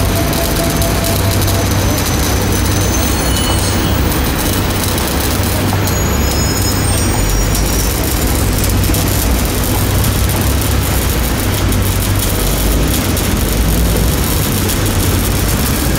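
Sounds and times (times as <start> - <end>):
engine droning: 0.0 - 15.9
welding arc crackling: 0.0 - 15.9.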